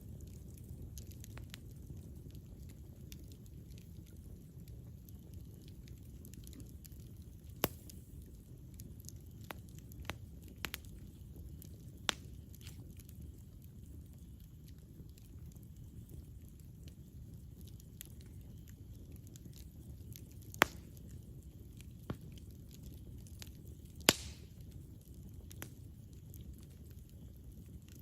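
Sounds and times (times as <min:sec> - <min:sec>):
burning wood popping and crackling: 0:00.0 - 0:28.0
campfire burning: 0:00.0 - 0:28.0.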